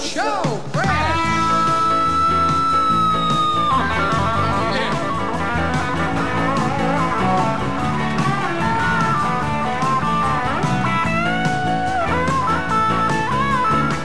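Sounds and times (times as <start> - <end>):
country band playing: 0.5 - 14.0
electric guitar lead with bent notes: 0.8 - 14.0.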